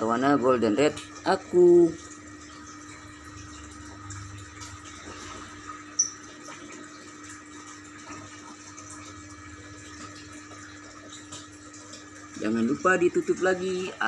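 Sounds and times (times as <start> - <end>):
pump humming: 0.0 - 14.0
water bubbling and splashing: 0.5 - 14.0.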